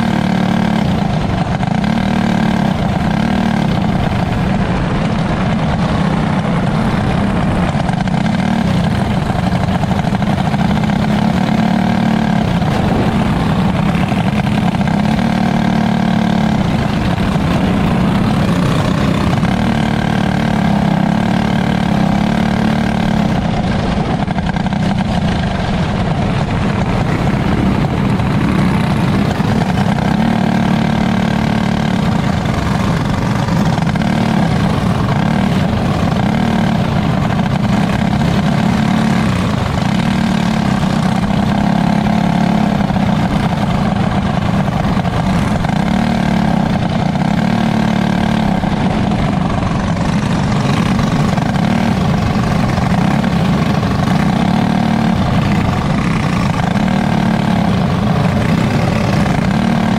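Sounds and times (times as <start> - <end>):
small kart engine running: 0.0 - 59.9.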